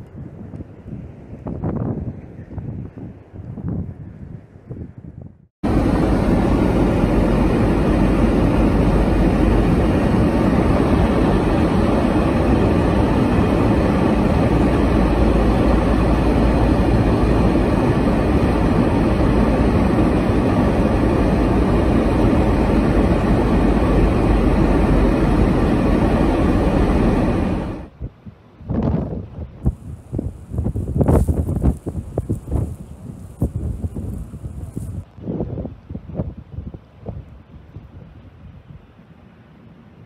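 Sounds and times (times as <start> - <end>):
wind and road noise in car: 0.0 - 40.0.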